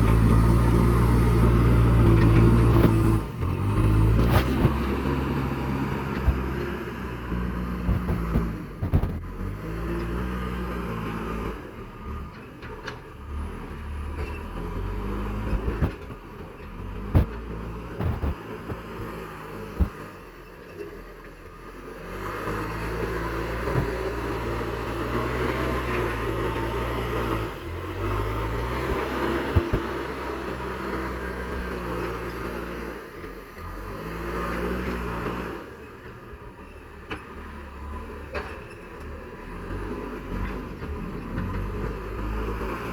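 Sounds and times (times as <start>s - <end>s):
diesel engine revving: 0.0s - 20.4s, 21.5s - 42.9s.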